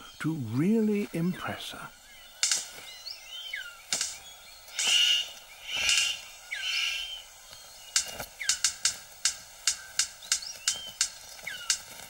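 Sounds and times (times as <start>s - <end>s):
bird harsh rasping calls: 0.0s - 12.0s
sharp bird clicks: 2.1s - 12.0s.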